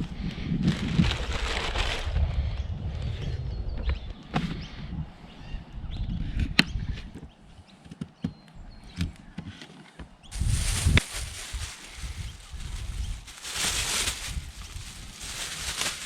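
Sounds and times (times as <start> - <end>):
wind rumbling on microphone: 0.0 - 7.7, 10.2 - 16.0.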